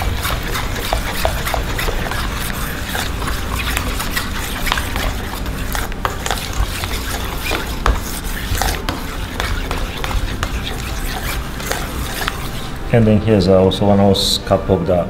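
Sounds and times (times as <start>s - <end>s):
spoon clinking and scraping bowl: 0.0s - 12.9s
metal spoon stirring thick sauce: 0.0s - 13.1s.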